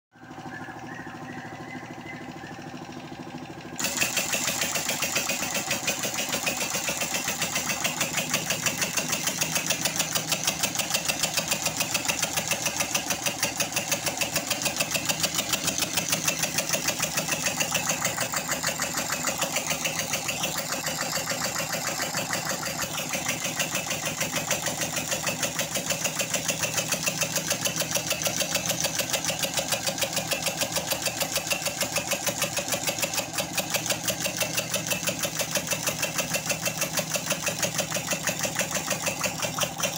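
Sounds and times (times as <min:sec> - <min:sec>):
air engine chuffing: 0:00.2 - 0:39.9.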